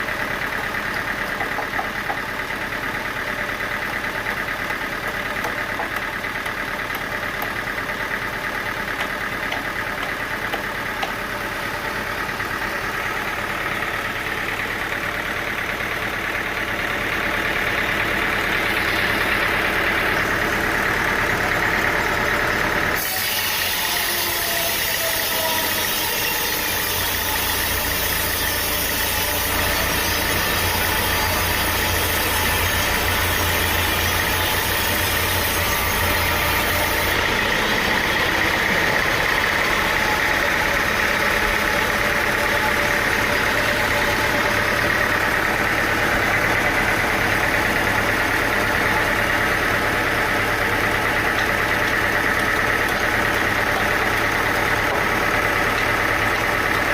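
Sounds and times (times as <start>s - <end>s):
engine-driven machinery running: 0.0s - 56.9s.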